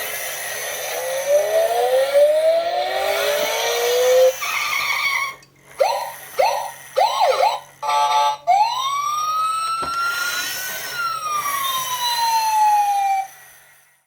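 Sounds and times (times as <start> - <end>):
electronic toy police siren: 0.8 - 13.7.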